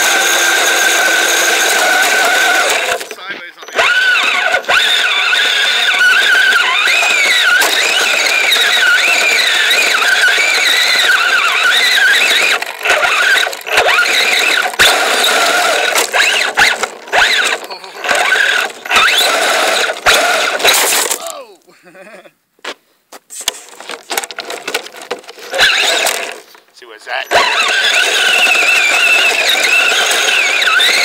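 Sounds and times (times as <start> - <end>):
electric motor and chain drive whining: 0.0 - 21.2, 23.9 - 31.0.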